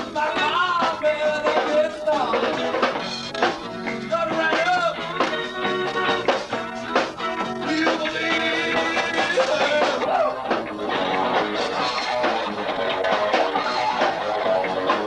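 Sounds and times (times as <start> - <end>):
bass guitar: 0.0 - 15.0
guitar lines: 0.0 - 15.0
steady drum beat: 0.0 - 15.0.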